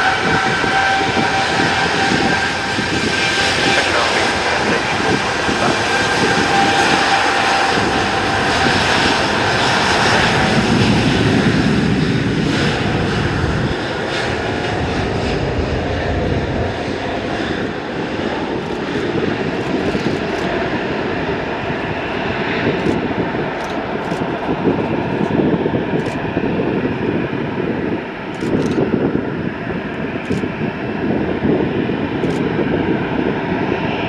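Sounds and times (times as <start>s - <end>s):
airliner engines roaring: 0.0s - 34.0s
engine whine: 0.0s - 34.0s.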